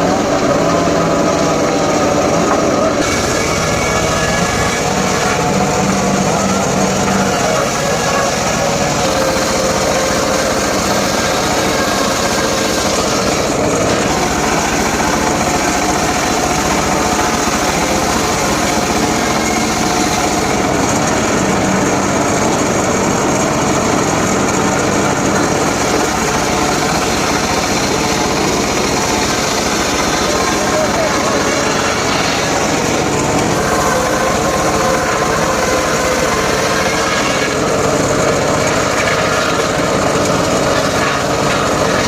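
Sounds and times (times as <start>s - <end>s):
engine-driven saw cutting wood: 0.0s - 42.0s.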